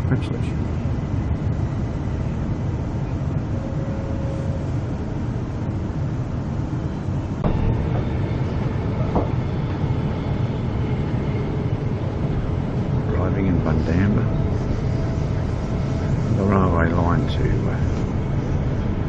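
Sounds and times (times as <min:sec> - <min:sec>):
faint steady whine: 0:00.0 - 0:19.0
train wheels rumbling: 0:00.0 - 0:19.0.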